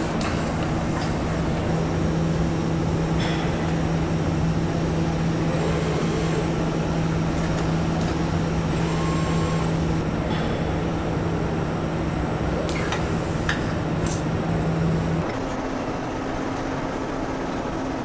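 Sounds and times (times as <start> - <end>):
assembly-line machinery humming: 0.0 - 15.4.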